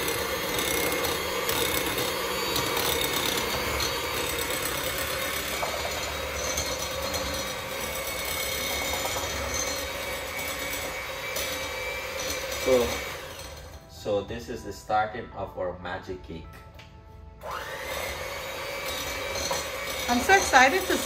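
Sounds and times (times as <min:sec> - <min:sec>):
electric hand mixer whisking: 0:00.0 - 0:14.2, 0:17.4 - 0:21.0.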